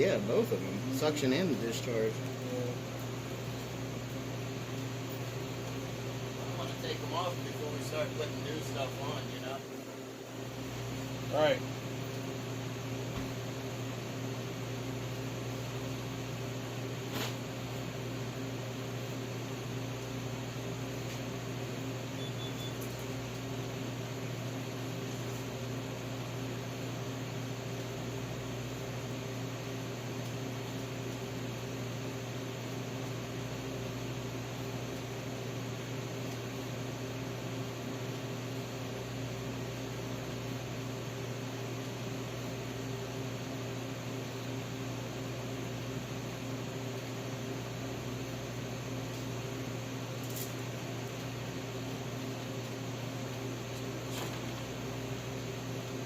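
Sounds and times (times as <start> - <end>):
fan-like hiss: 0.0 - 56.0
motor humming with low buzz: 0.0 - 56.0.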